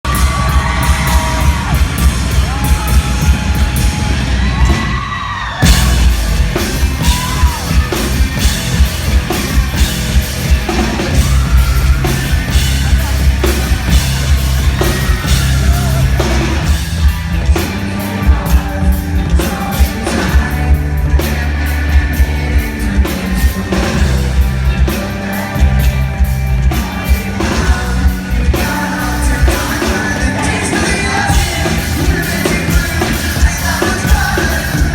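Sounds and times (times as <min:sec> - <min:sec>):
rock band playing live: 0:00.0 - 0:34.9
singer yelling and singing: 0:00.1 - 0:34.9.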